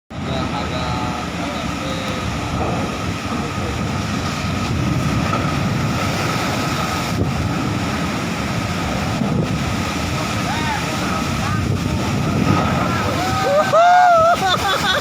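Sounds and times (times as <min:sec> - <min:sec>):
ferry engine rumble: 0:00.1 - 0:15.0
sea noise: 0:00.1 - 0:15.0
wind on microphone: 0:00.1 - 0:15.0.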